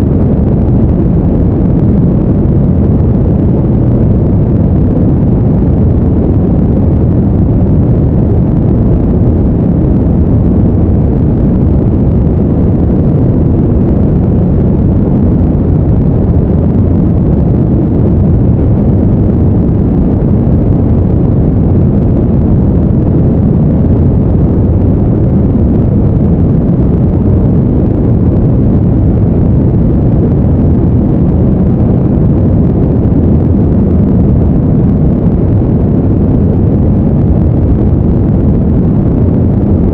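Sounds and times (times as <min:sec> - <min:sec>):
deep rumbling brown noise: 0:00.0 - 0:39.9.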